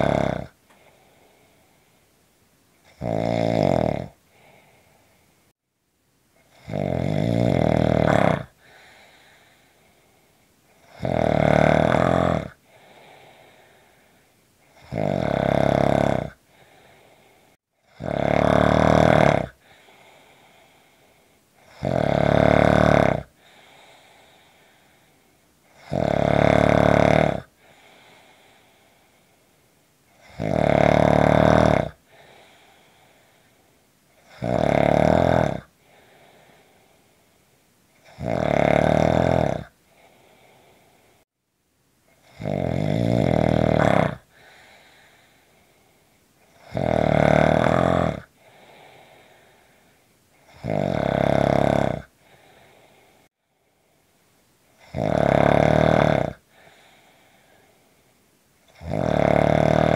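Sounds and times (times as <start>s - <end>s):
person snoring: 0.0s - 1.8s, 2.8s - 5.0s, 6.5s - 29.4s, 30.2s - 33.6s, 34.2s - 37.1s, 38.0s - 41.2s, 42.2s - 53.3s, 54.8s - 57.8s, 58.7s - 59.9s.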